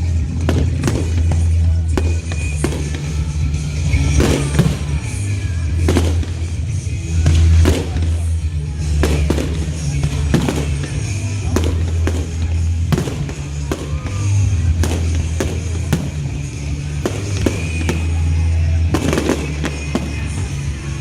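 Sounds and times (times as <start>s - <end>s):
fireworks bangs: 0.0s - 21.0s
loud music with heavy bass: 0.0s - 21.0s.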